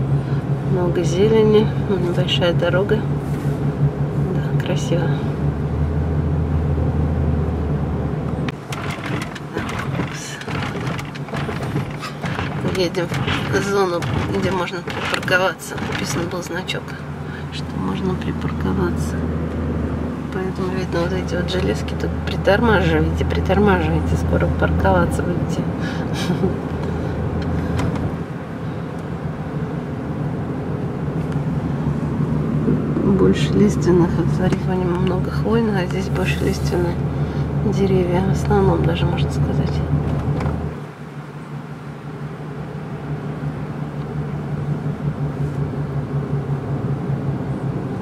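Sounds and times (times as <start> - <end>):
car cabin road noise: 0.0 - 48.0.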